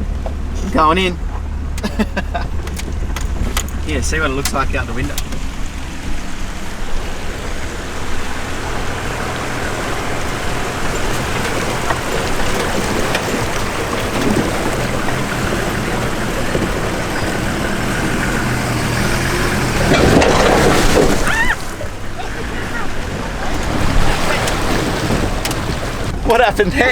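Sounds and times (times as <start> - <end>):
vehicle engine pulling under load: 0.0 - 26.9
water splashing and rushing: 0.0 - 26.9.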